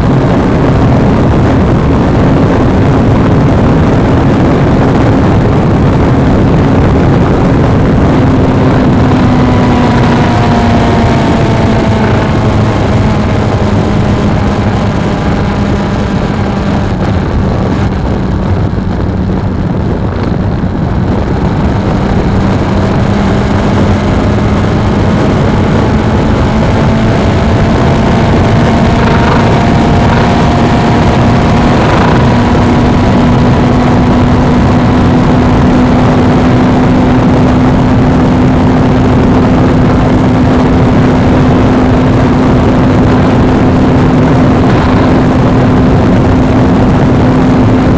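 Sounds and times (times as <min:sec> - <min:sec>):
motorcycle engine cruising: 0:00.0 - 0:47.9
wind rush: 0:00.0 - 0:47.9.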